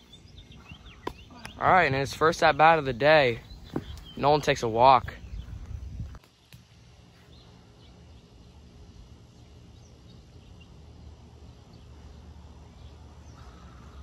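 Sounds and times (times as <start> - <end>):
birds chirping: 0.0 - 14.0
low steady rumble: 0.0 - 14.0.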